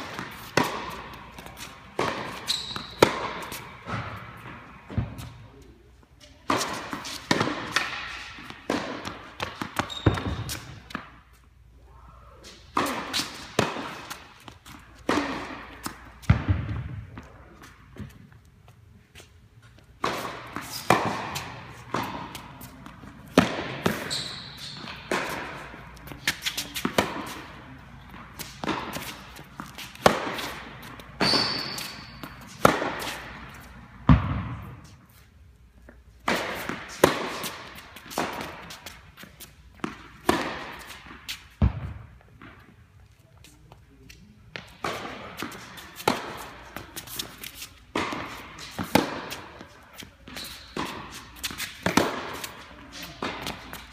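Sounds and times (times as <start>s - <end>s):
tennis balls bouncing on court: 0.0s - 5.4s, 6.4s - 11.4s, 12.5s - 35.0s, 35.8s - 42.8s, 44.1s - 53.9s
rackets striking tennis balls: 0.0s - 11.5s, 12.5s - 53.9s.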